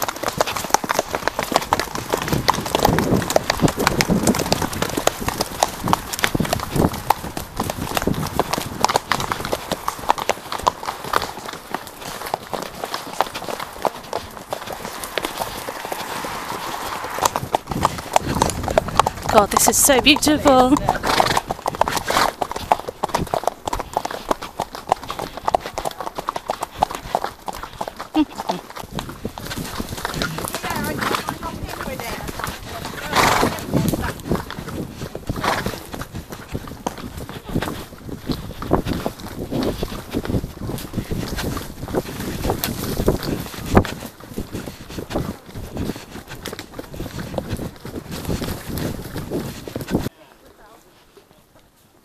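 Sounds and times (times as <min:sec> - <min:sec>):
horse hooves galloping on grass: 0:00.0 - 0:52.0.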